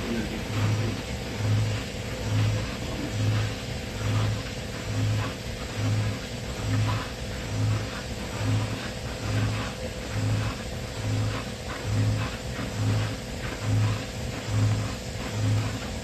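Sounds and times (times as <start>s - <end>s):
machine noise: 0.0s - 16.0s
rhythmic low hum: 0.0s - 16.0s.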